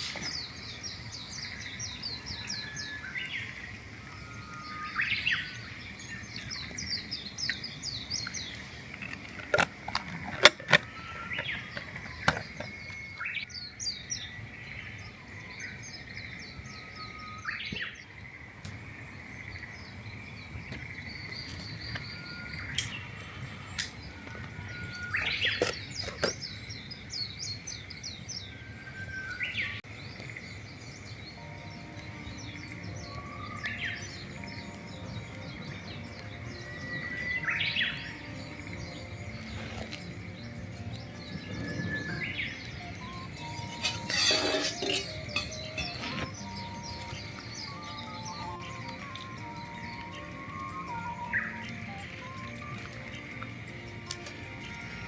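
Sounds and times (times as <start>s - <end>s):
small birds trilled chirping: 0.0s - 55.0s.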